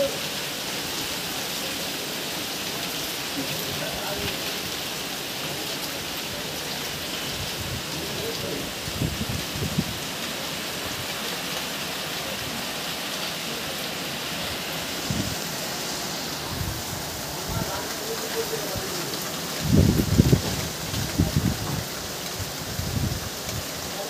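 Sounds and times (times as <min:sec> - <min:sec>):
heavy rain on tiled roofs: 0:00.0 - 0:24.0.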